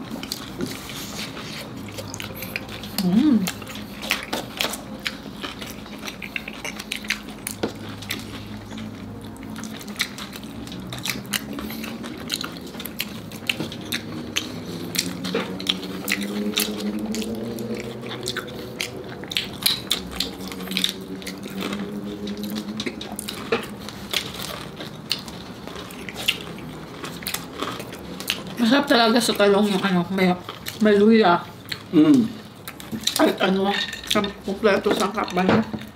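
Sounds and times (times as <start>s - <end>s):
crunching and chewing: 0.0s - 35.9s.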